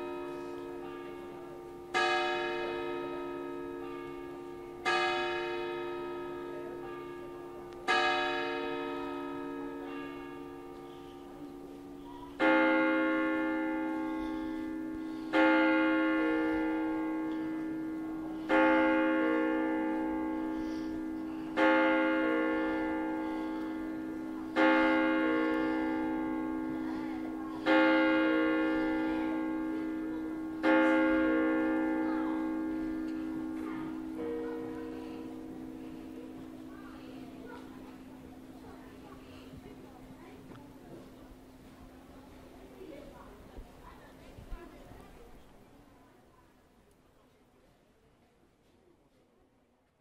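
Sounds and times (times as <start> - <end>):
church bell strokes: 0.0 - 40.3.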